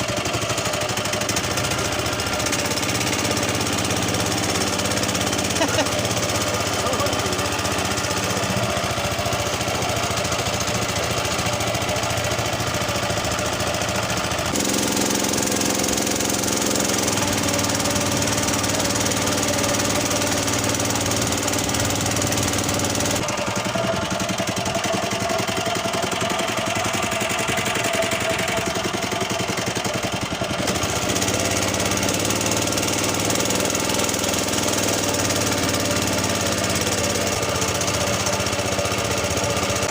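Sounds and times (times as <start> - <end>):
boat engine running hard: 0.0 - 39.9.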